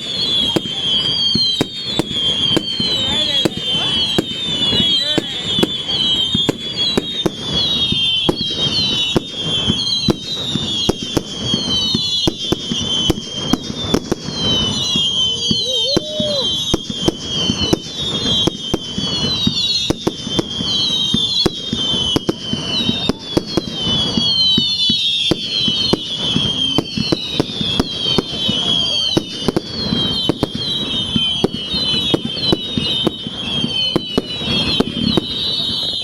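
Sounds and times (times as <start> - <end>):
fireworks bangs and crackles: 0.0 - 36.0
high falling whistles: 0.0 - 36.0.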